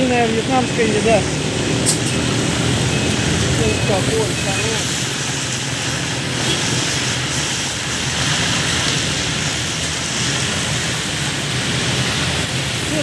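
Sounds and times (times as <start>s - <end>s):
crabs sizzling in oil: 0.0s - 13.0s
gas burner rushing: 0.0s - 13.0s.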